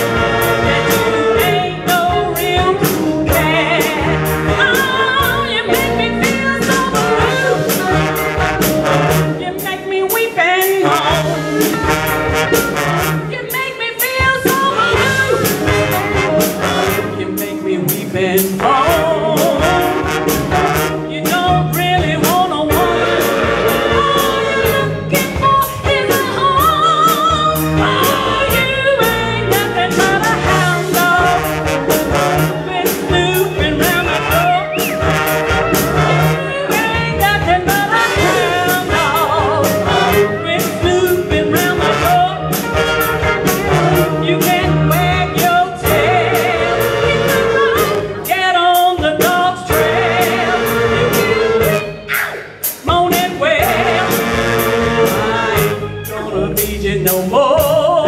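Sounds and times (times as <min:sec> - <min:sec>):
woman singing: 0:00.0 - 0:12.0, 0:12.7 - 0:20.1, 0:20.7 - 0:42.8, 0:43.4 - 0:52.1, 0:52.8 - 0:54.3, 0:55.6 - 0:58.0
trumpet and trombone: 0:00.0 - 0:17.6, 0:18.4 - 0:48.4, 0:49.2 - 0:56.7
drums steady beat: 0:00.0 - 0:58.0.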